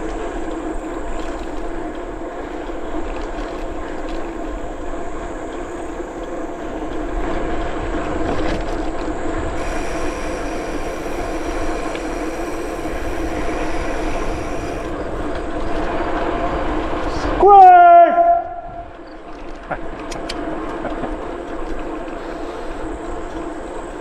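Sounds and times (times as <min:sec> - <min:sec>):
bicycle rolling hum: 0:00.0 - 0:24.0
wind rumble on microphone: 0:00.0 - 0:24.0.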